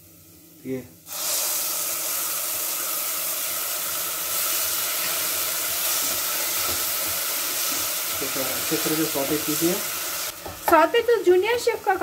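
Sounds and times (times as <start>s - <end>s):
tomato puree sizzling in pan: 0.0s - 12.0s.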